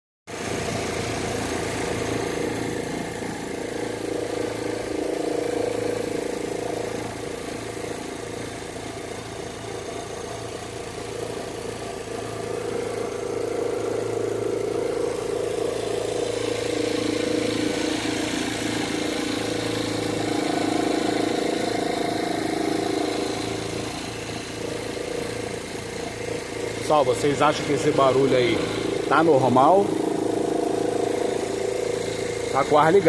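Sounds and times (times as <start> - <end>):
alternator belt noise: 0.3 - 33.0
car engine idling: 0.4 - 33.0.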